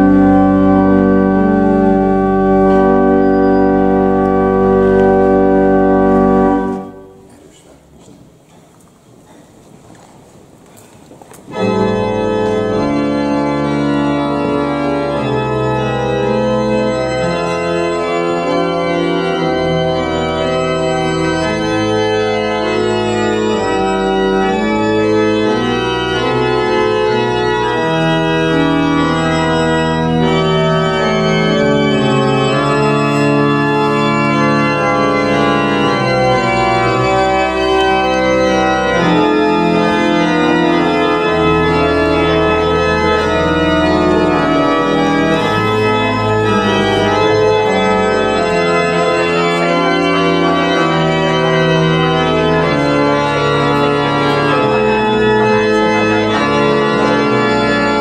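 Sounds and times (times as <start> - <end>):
church organ playing chords: 0.0 - 7.4, 11.4 - 58.0.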